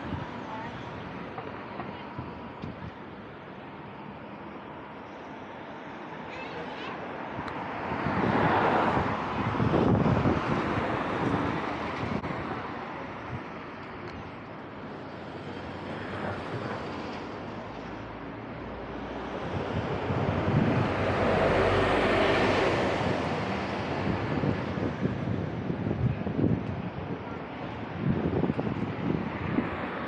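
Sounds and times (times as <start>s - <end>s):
wind buffeting microphone: 0.0s - 3.2s, 7.2s - 30.0s
street traffic: 0.0s - 30.0s.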